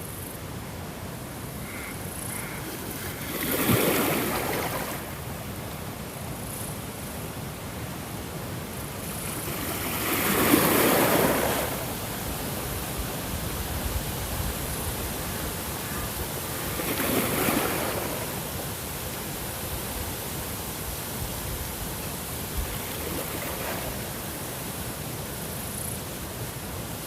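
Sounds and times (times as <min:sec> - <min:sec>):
ocean waves washing onto shore: 0:00.0 - 0:27.0
steady surf: 0:00.0 - 0:27.0.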